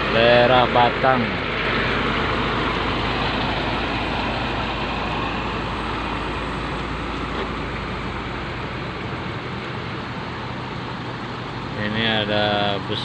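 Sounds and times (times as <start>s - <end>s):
truck engine driving past: 0.0s - 13.0s.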